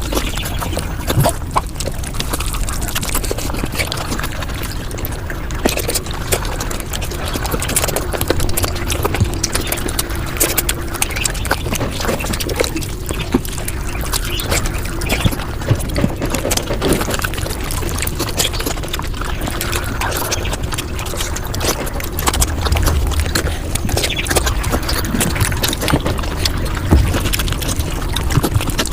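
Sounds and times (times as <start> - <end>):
quick chewing and mouth clicks: 0.0 - 28.9.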